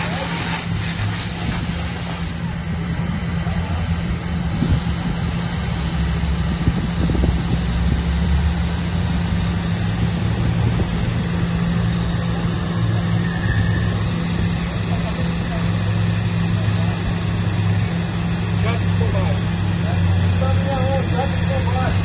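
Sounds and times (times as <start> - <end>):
engine humming: 0.0 - 22.0
fire hose spraying water: 0.0 - 22.0.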